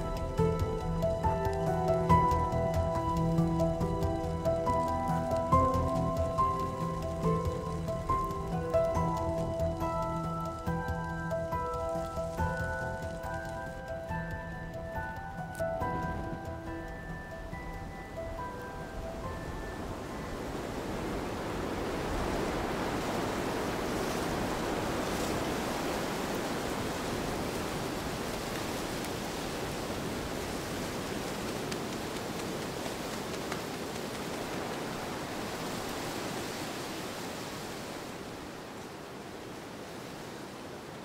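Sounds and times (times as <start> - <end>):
wind rushing through trees: 0.0 - 41.0.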